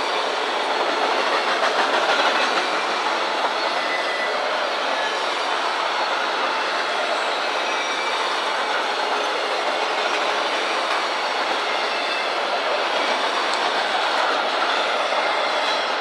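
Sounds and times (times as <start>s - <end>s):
steel wheels on rails: 0.0s - 16.0s.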